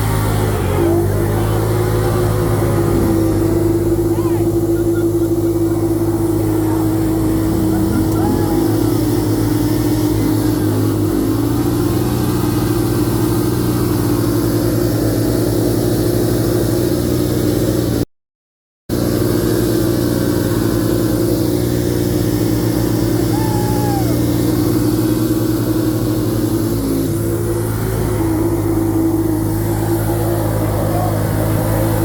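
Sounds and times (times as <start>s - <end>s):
vehicle engine droning: 0.0s - 18.1s, 18.9s - 32.0s.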